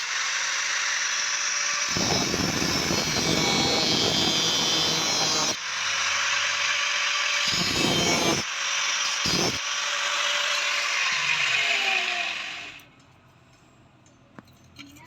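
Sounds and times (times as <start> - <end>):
power tool grinding: 0.0 - 12.8.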